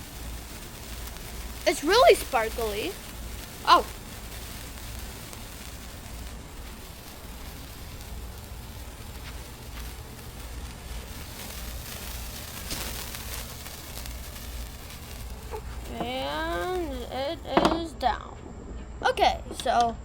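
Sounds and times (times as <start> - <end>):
sparkler fizzing hiss: 0.0 - 18.3.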